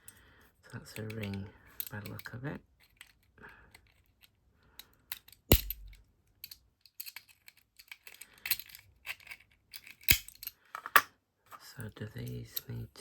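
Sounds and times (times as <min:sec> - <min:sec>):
lock parts clicking and clinking: 0:00.9 - 0:12.8.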